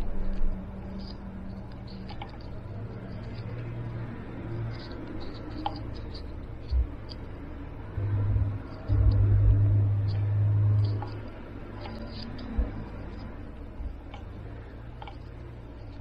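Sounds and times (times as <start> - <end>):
light clicks and handling noises: 0.0 - 16.0
low steady hum: 0.0 - 16.0.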